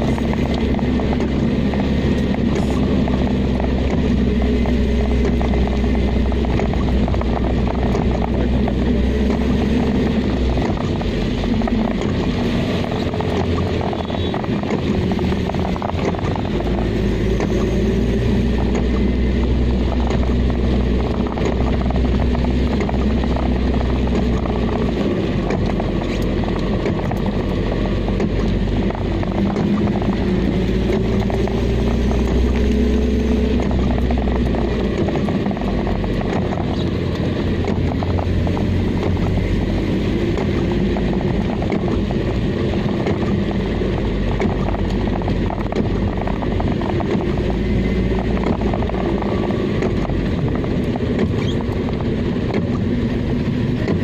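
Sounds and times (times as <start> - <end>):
car engine drone: 0.0 - 54.0.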